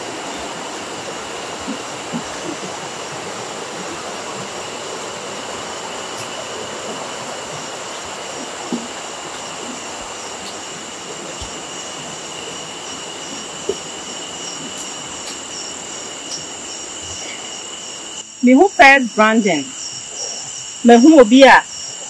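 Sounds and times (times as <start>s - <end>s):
background hiss: 0.0s - 22.0s
crickets chirping: 0.0s - 22.0s.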